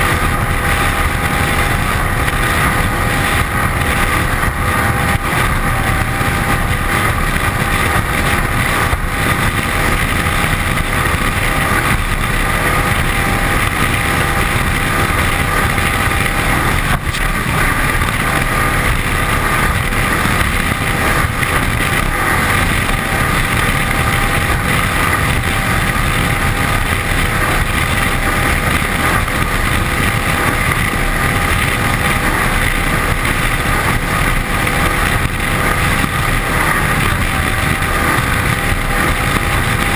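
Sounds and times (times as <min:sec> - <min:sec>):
powerboat engine at speed: 0:00.0 - 0:39.9
spray rushing along hull: 0:00.0 - 0:39.9.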